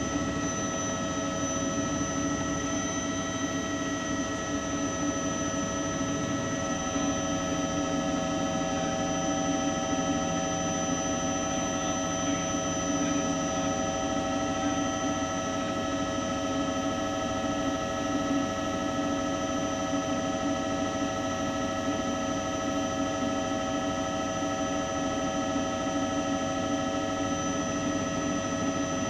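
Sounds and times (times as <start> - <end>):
mechanical hum with held tones: 0.0 - 29.0.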